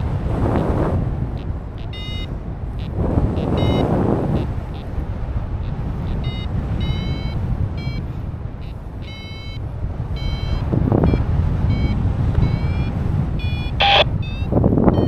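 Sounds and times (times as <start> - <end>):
wind rushing over microphone: 0.0 - 15.0
variometer high beeps: 1.4 - 4.9, 5.6 - 15.0.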